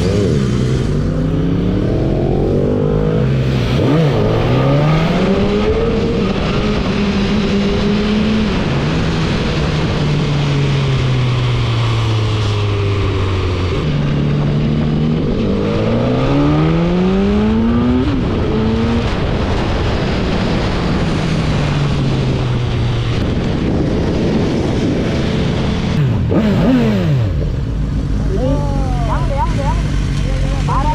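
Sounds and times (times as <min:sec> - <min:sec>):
heavy wind noise: 0:00.0 - 0:30.9
motorcycle engine accelerating: 0:00.0 - 0:30.9.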